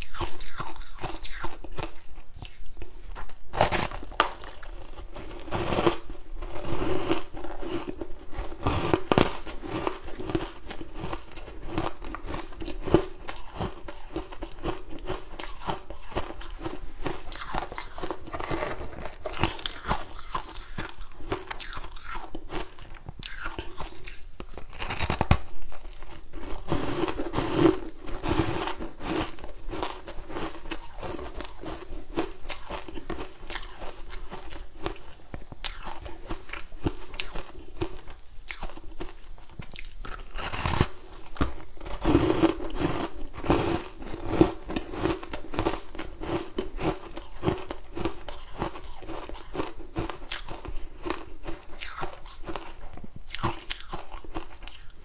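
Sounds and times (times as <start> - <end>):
person chewing ice: 0.0 - 55.0.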